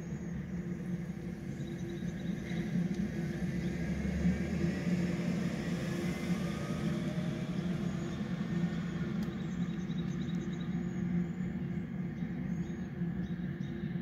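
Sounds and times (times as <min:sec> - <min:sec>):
diesel train engine running: 0:00.0 - 0:14.0.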